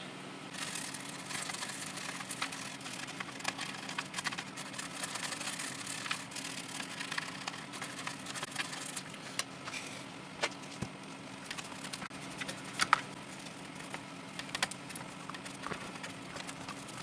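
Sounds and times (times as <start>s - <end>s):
scratching with small clicks: 0.5s - 9.6s, 11.4s - 17.0s.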